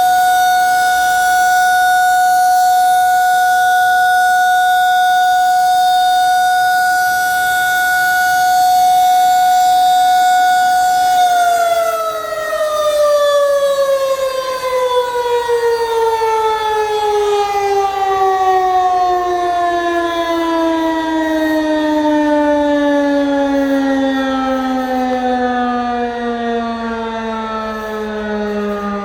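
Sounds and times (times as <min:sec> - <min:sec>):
warning siren steady tone: 0:00.0 - 0:29.0.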